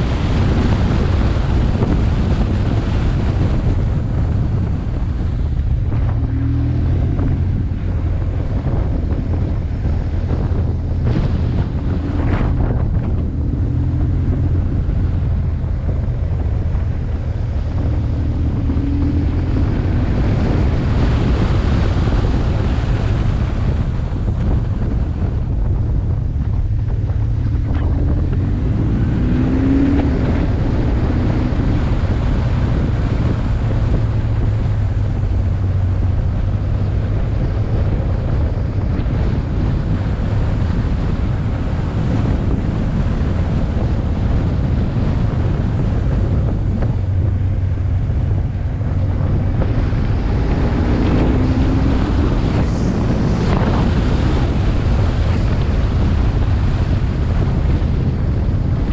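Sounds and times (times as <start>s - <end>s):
motorcycle engine running: 0.0s - 58.9s
wind rushing over microphone: 0.0s - 58.9s.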